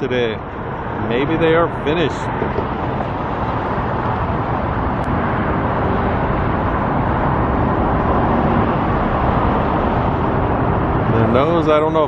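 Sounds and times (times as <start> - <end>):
road traffic roar: 0.0 - 12.0.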